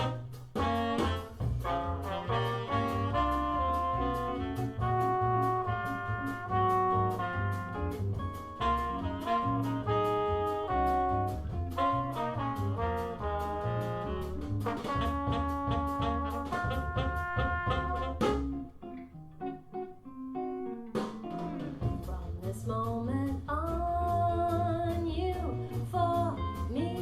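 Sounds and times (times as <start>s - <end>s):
jazz music with brass and saxophone: 0.0s - 27.0s.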